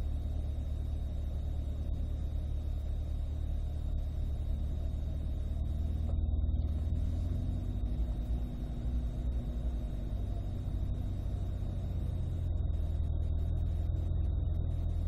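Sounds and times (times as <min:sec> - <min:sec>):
car engine idling low rumble: 0:00.0 - 0:15.0
faint high-pitched tone: 0:00.0 - 0:15.0.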